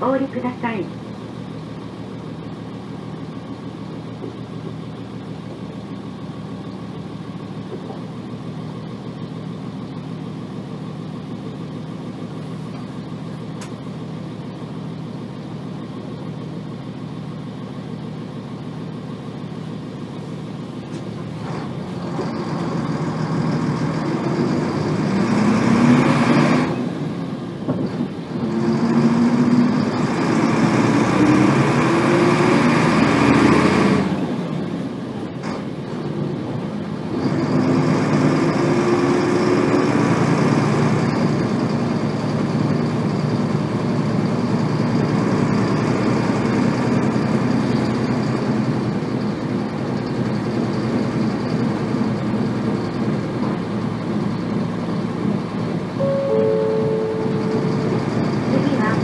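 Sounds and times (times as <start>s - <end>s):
diesel bus engine revving: 0.0s - 59.0s.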